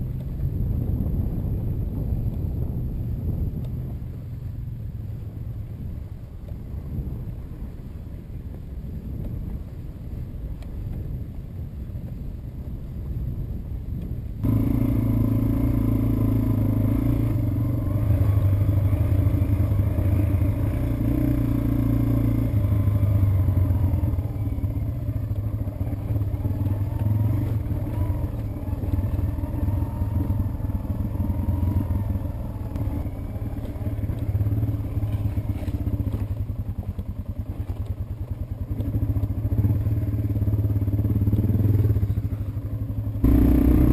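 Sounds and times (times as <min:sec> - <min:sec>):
motorcycle engine running: 0:00.0 - 0:43.9
wind on microphone: 0:00.0 - 0:43.9.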